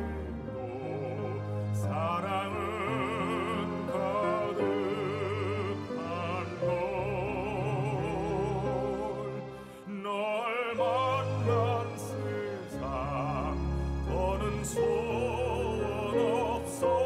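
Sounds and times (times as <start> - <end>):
baritone singing a slow ballad: 0.0 - 17.0.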